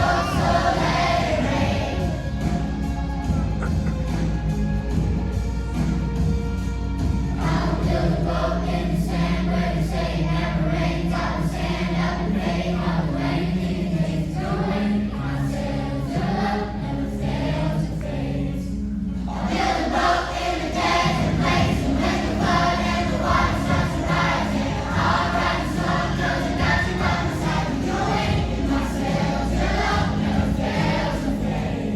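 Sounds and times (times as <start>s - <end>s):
children's choir singing: 0.0s - 4.3s, 7.3s - 31.9s.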